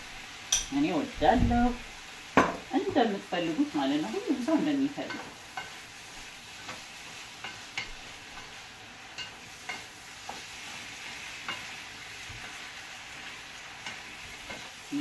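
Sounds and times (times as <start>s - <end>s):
food sizzling in a frying pan: 0.0s - 15.0s
wooden spoon scraping a pan: 2.6s - 15.0s.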